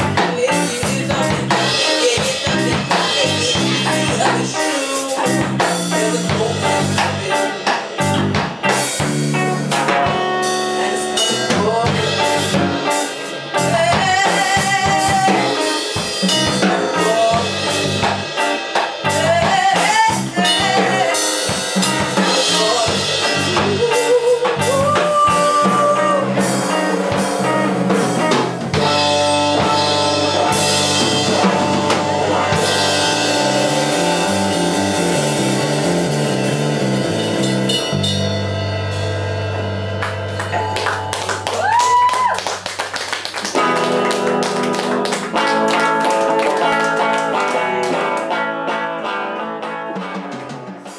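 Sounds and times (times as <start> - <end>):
blues band playing live: 0.0 - 50.9.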